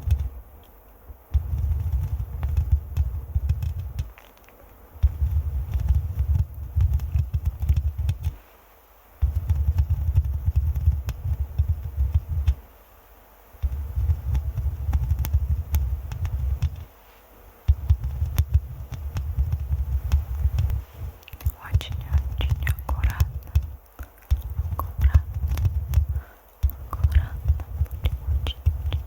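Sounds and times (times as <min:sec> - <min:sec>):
fingers scratching microphone: 0:01.3 - 0:08.4, 0:09.2 - 0:12.6, 0:13.6 - 0:16.9, 0:17.6 - 0:29.0.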